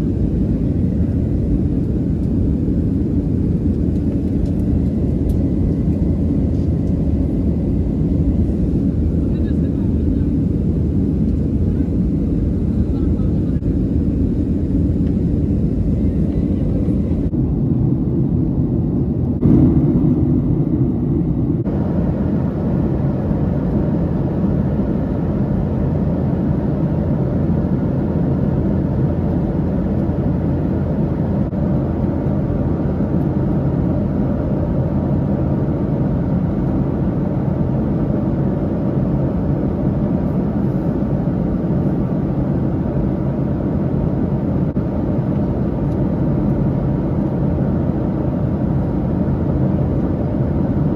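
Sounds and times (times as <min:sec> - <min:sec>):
jet engine drone in cabin: 0:00.0 - 0:50.9.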